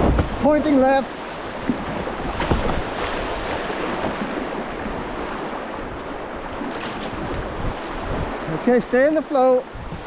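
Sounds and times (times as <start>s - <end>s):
wind buffeting microphone: 0.0s - 8.8s, 9.6s - 10.0s
water splashes: 0.0s - 10.0s.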